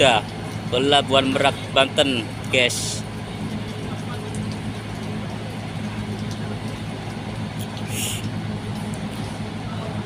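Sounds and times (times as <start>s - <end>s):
ferry diesel engines droning: 0.0s - 10.0s.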